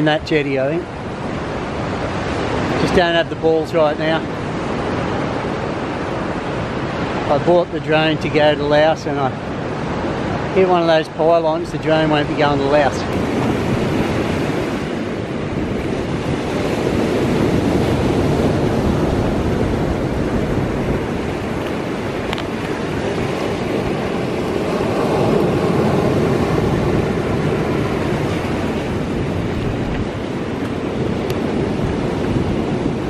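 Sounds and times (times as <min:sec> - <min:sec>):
surf washing on rocky shore: 0:00.0 - 0:33.0
wind buffeting microphone: 0:00.0 - 0:33.0.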